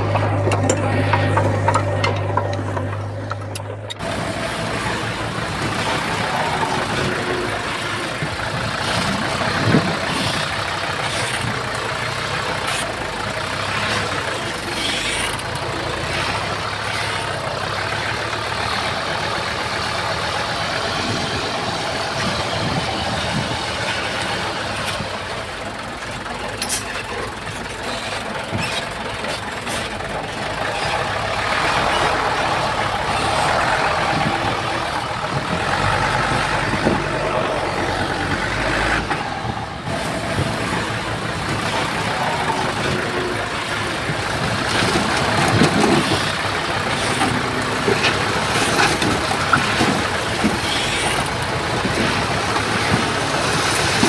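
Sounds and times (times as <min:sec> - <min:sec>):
heavy earthmoving machinery running: 0:00.0 - 0:54.0.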